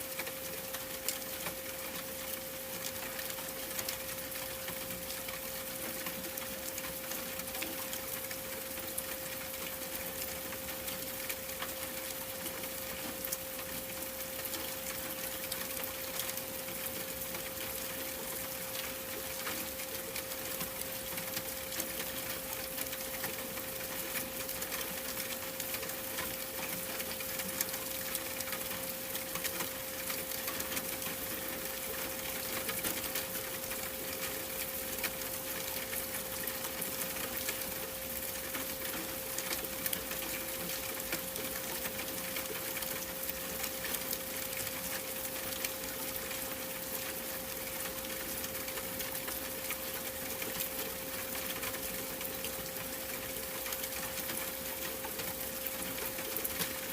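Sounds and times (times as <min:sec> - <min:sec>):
rain-like hiss with crackling: 0:00.0 - 0:56.9.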